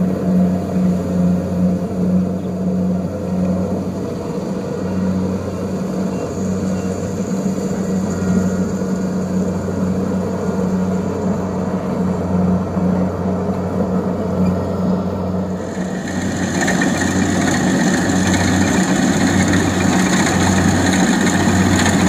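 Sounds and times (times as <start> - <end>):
combine harvester engine hum: 0.0 - 22.0.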